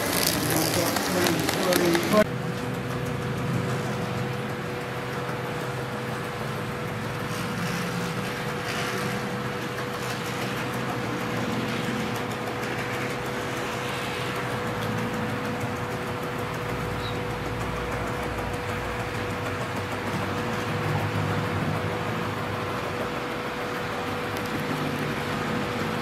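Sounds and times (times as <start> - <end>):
model train running hum: 0.0 - 26.0.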